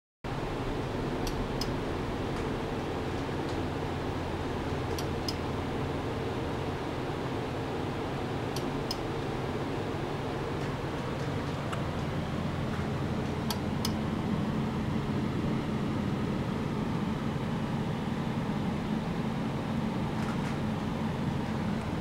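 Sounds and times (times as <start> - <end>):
lab equipment humming: 0.3 - 22.0.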